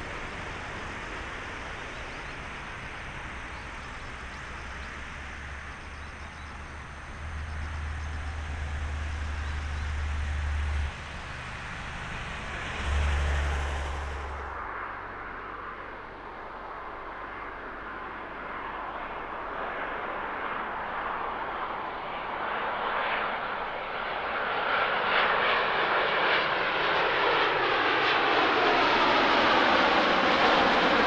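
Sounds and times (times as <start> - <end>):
jet engine roar: 0.0 - 31.0
jet engine whine: 0.0 - 31.0.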